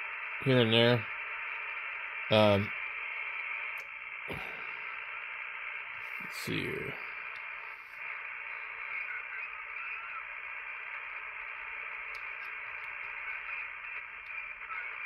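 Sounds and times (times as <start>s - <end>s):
radio receiver hiss: 0.0s - 15.0s.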